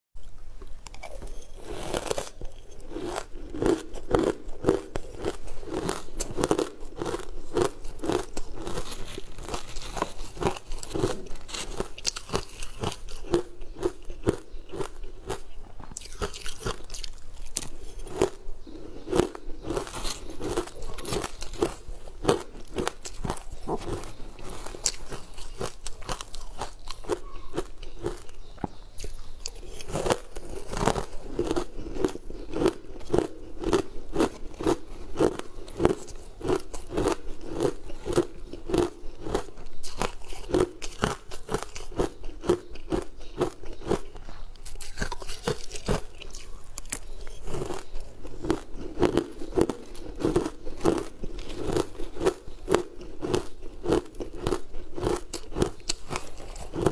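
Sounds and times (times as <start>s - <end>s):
crunching ice: 0.9s - 56.9s.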